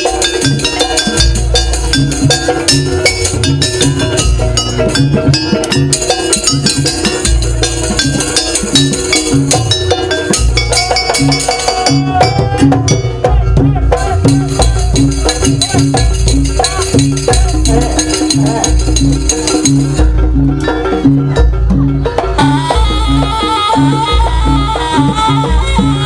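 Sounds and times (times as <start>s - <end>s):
drums and struck percussion: 0.0s - 26.0s
pitched melody line: 0.0s - 26.0s
sustained bass notes: 0.0s - 26.0s.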